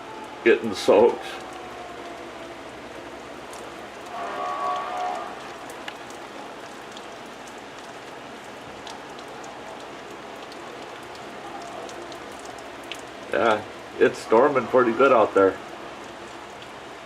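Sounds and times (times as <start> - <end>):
heavy rain falling: 0.0 - 17.0
raindrops ticking on window glass: 0.0 - 17.0.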